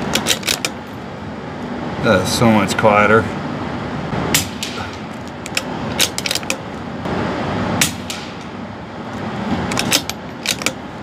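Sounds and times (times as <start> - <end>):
ventilation hum: 0.0 - 11.0.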